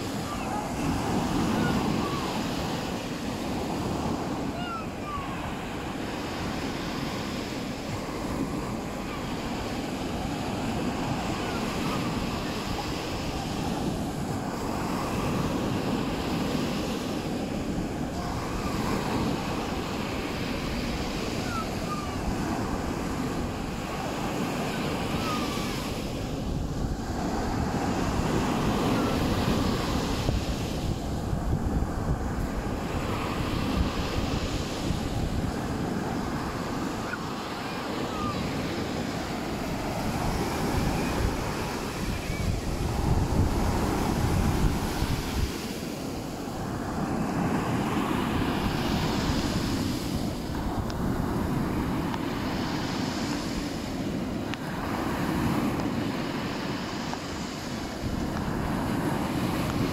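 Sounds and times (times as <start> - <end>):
surf washing on beach: 0.0 - 59.9
wind noise on microphone: 0.0 - 59.9.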